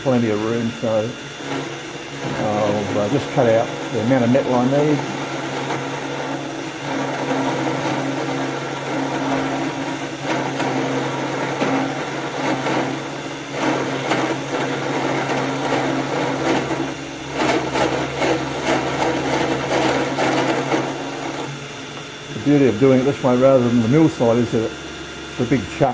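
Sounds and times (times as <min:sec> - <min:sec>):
end mill rasping on metal: 0:00.0 - 0:25.9
motor hum: 0:00.0 - 0:25.9.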